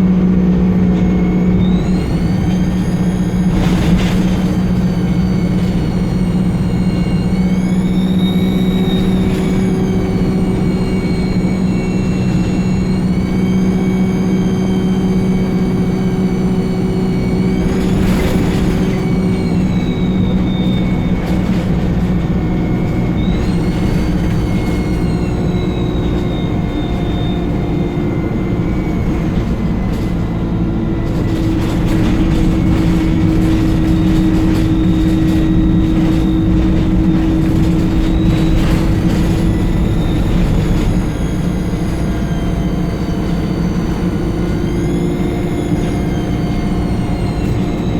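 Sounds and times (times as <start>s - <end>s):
diesel engine drone: 0.0s - 47.9s
turbocharger whistling: 0.0s - 47.9s.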